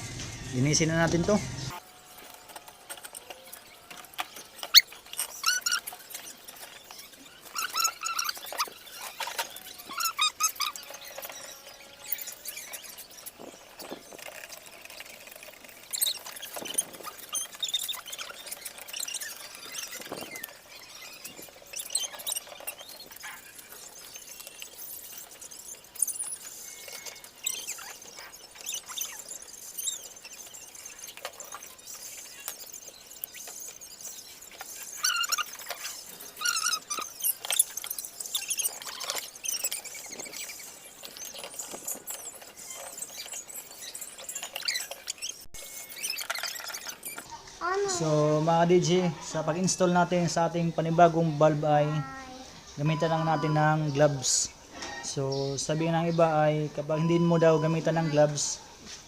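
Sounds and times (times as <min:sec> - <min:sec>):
high-pitched squeaking and scraping: 0:00.0 - 0:59.0.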